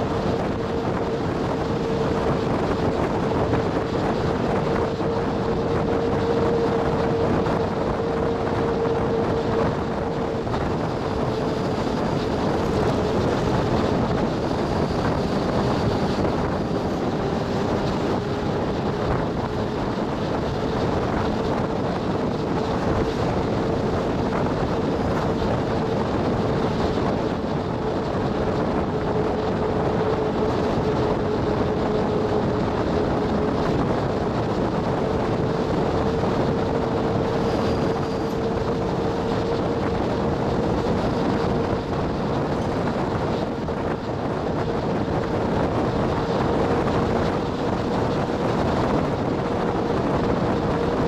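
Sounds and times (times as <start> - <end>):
bus road and engine noise: 0.0 - 51.0.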